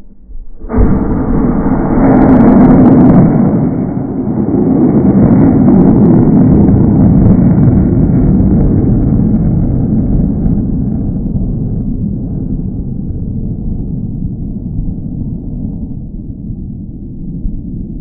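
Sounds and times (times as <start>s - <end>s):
rocket exhaust roaring: 0.0s - 17.4s.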